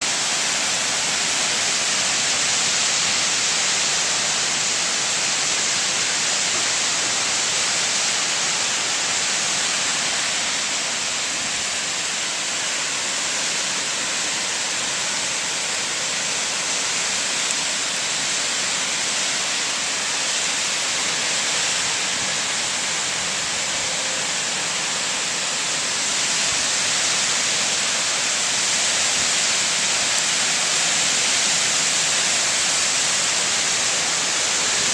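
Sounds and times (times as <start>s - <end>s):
heavy rain in strong wind: 0.0s - 34.9s.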